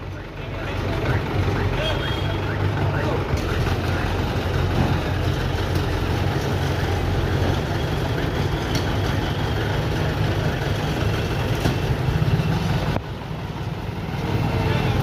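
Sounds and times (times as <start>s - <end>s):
street traffic: 0.0s - 15.0s
truck engine idling: 0.0s - 15.0s.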